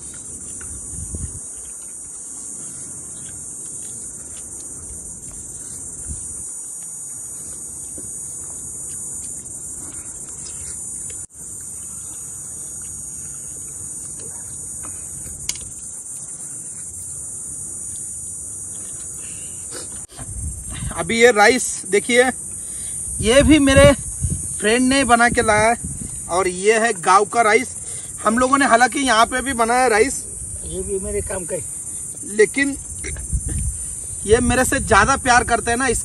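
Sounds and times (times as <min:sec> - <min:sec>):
insects buzzing: 0:00.0 - 0:36.0.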